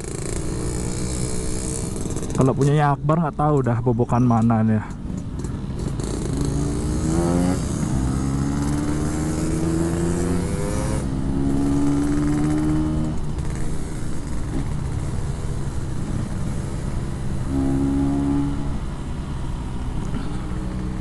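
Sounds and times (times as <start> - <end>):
two-stroke motorcycle accelerating: 0.0 - 2.9, 4.9 - 21.0.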